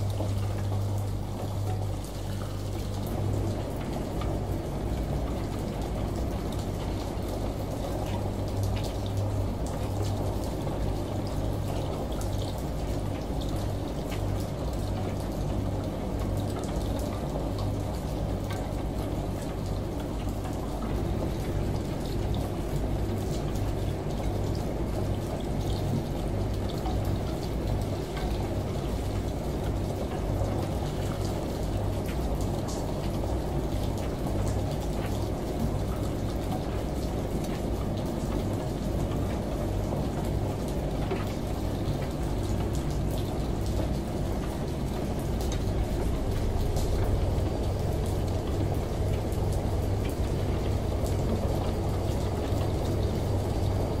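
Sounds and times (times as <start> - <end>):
washing machine hum: 0.0 - 54.0
water sloshing in washing machine: 0.0 - 54.0.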